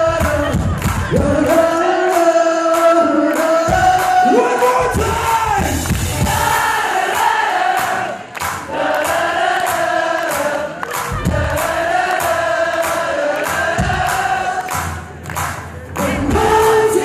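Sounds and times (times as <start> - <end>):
audience singing along: 0.0 - 15.1, 15.8 - 17.0.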